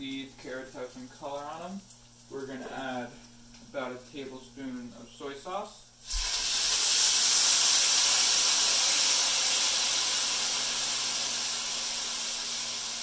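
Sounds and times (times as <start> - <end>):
sauce sizzling in hot pan: 0.0 - 13.0.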